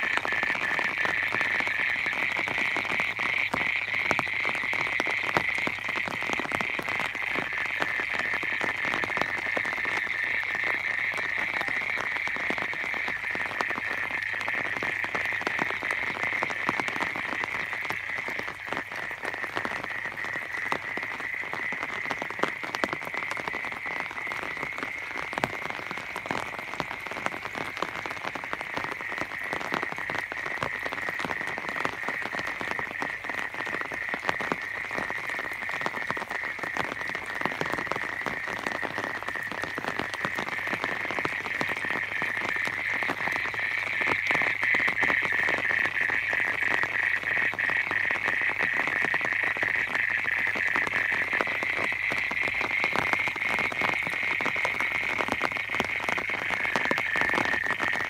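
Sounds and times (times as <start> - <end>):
frogs calling: 0.0 - 58.0
rain pattering: 0.0 - 58.0.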